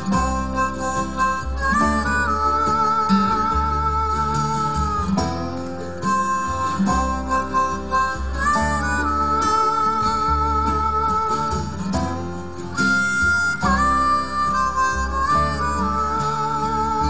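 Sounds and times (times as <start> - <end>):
guitar: 0.0 - 17.0
harmonica playing bending notes: 0.0 - 17.0.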